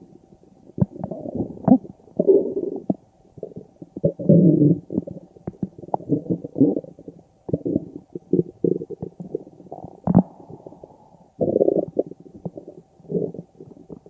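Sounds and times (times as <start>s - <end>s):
stomach growling: 0.7s - 14.0s.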